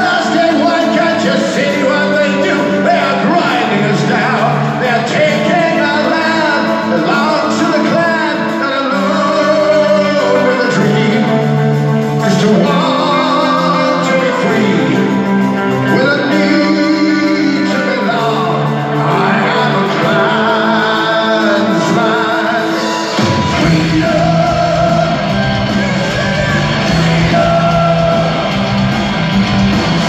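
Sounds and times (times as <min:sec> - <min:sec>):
person singing long notes: 0:00.0 - 0:29.2
live heavy metal band: 0:00.0 - 0:30.0.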